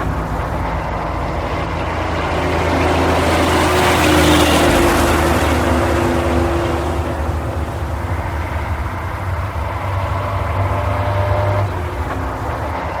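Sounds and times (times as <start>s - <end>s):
truck engine running at low revs: 0.0s - 13.0s.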